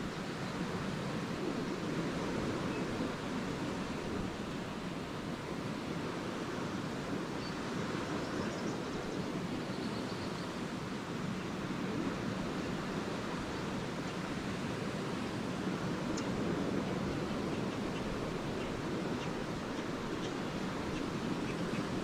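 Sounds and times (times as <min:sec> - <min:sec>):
waves breaking on shore: 0:00.0 - 0:09.7, 0:10.7 - 0:22.0.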